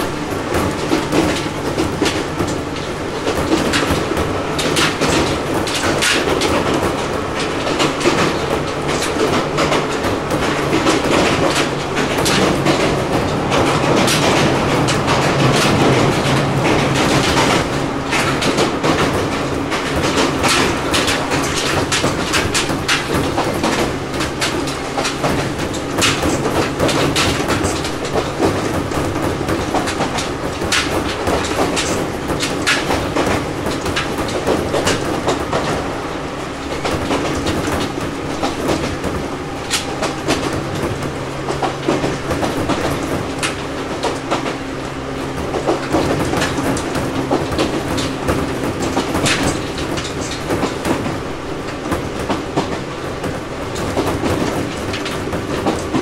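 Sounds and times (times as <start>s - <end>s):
wheels clicking over rail joints: 0.0s - 56.0s.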